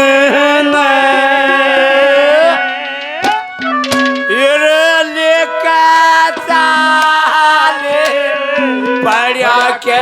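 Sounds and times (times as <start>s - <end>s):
folk instrumental melody: 0.8s - 10.0s
hand drum strokes: 1.0s - 10.0s.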